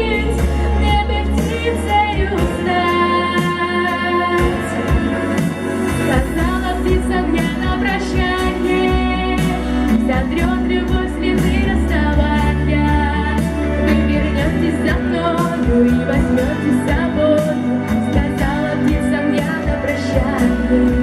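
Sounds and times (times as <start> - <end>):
drum beats: 0.0 - 21.0
steady bass: 0.0 - 21.0
woman singing pop song: 0.0 - 21.0.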